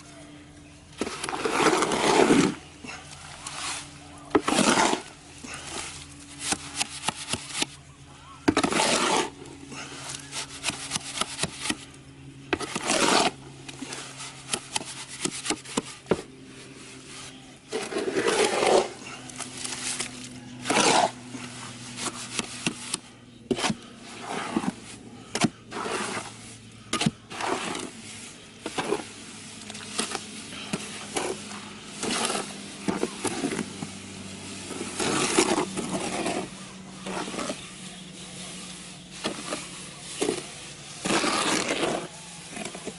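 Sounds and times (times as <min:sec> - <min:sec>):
faint steady hum: 0:00.0 - 0:42.9
tool scraping through mortar: 0:01.0 - 0:07.8, 0:08.4 - 0:11.9, 0:12.5 - 0:42.9.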